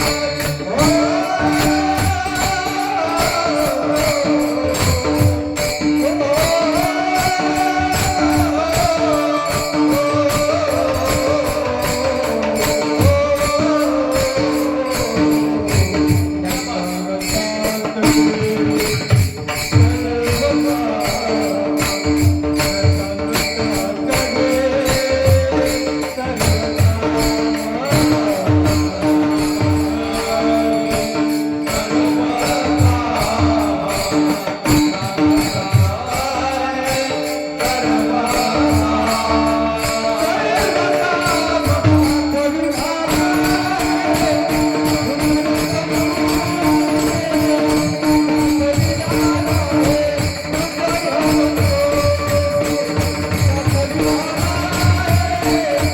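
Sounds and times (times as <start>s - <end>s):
devotional music: 0.0s - 55.9s
hand drum beats: 0.0s - 55.9s
small cymbals jingling: 0.0s - 55.9s.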